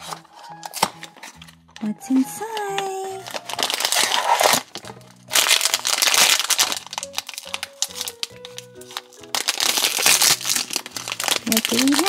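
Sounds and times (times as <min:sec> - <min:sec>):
light background music: 0:00.0 - 0:12.0
plastic wrapping crinkling: 0:00.0 - 0:12.0.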